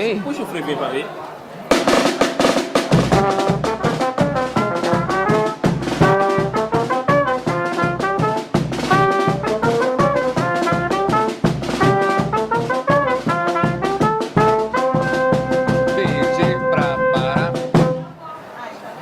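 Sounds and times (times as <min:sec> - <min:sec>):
brass band playing lively tune: 0:01.6 - 0:18.2
quick drum beat: 0:01.7 - 0:18.0.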